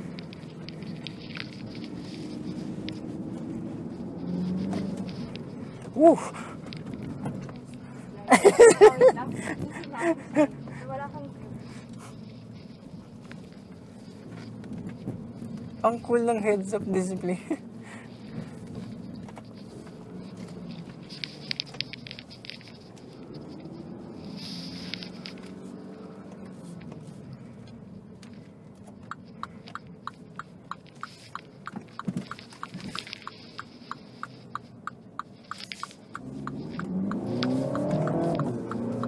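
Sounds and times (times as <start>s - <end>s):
car engine and road hum: 0.0s - 39.0s
turn signal ticking: 0.0s - 39.0s.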